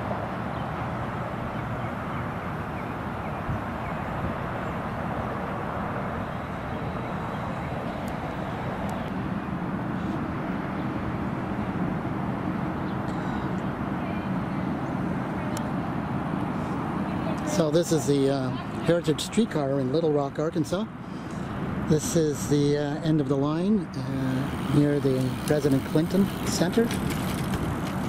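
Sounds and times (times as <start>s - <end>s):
vehicle rumble and hiss: 0.0s - 28.0s.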